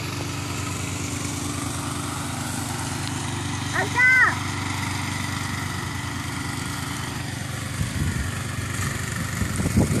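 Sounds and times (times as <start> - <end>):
motor running steadily: 0.0 - 10.0.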